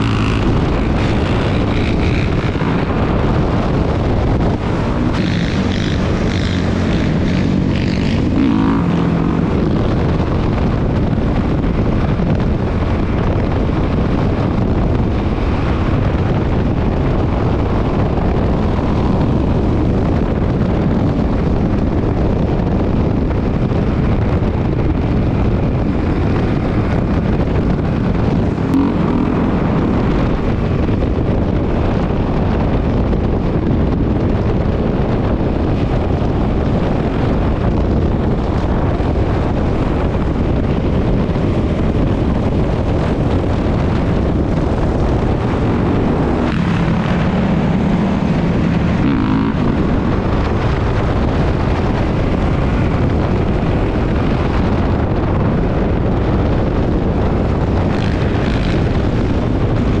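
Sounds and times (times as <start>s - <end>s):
dirt bike engine under throttle: 0.0s - 60.0s
wind buffeting microphone: 0.0s - 60.0s.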